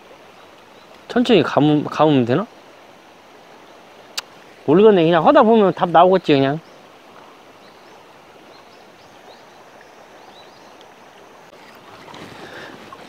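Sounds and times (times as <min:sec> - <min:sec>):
shallow river rushing: 0:00.0 - 0:13.0.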